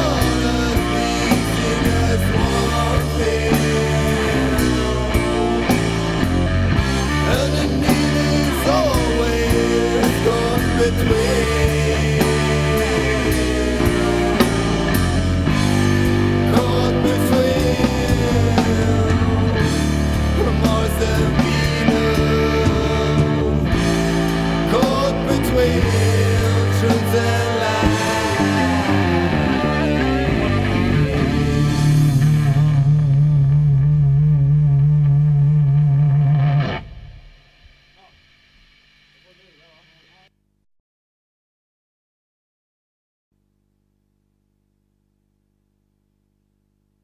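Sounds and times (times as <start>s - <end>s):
rock band playing: 0.0s - 38.1s.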